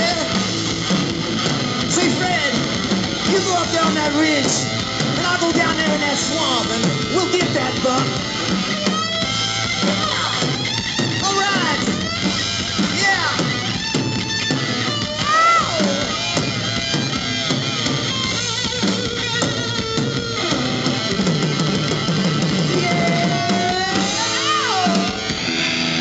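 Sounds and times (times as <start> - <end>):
drum kit: 0.0 - 26.0
electric bass: 0.0 - 26.0
electric guitar lead: 0.0 - 26.0.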